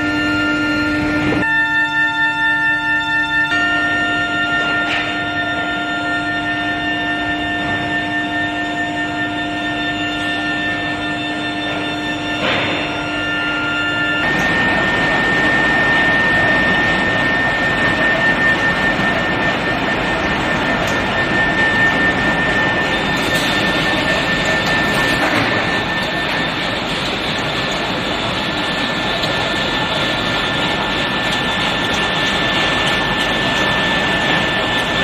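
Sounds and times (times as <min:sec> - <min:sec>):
high-pitched whine: 0:00.0 - 0:35.0
industrial machinery roar: 0:00.0 - 0:35.0.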